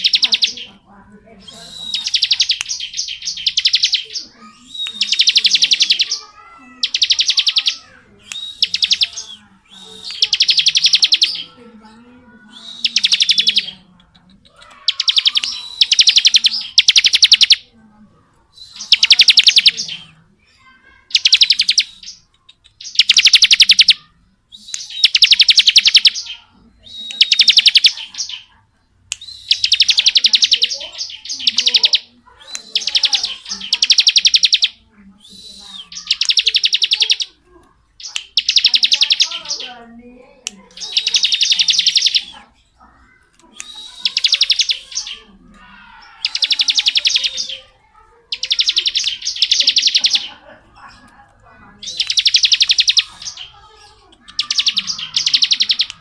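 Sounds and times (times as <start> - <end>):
bird singing rattling trill: 0.0 - 13.9, 14.5 - 17.7, 18.6 - 28.6, 29.2 - 40.0, 40.6 - 42.5, 43.1 - 51.0, 51.7 - 56.0.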